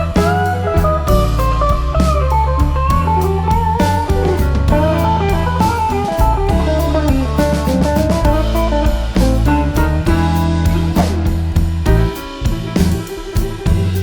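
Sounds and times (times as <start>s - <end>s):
guitar-led instrumental music: 0.0s - 14.0s.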